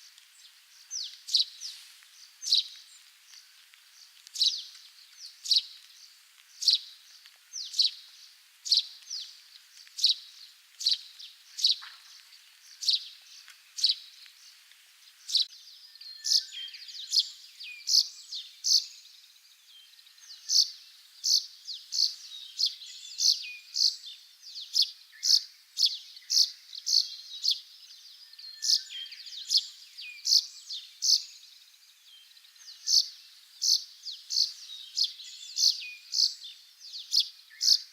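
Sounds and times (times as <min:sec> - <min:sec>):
sparrow chirping song: 0:00.0 - 0:37.9.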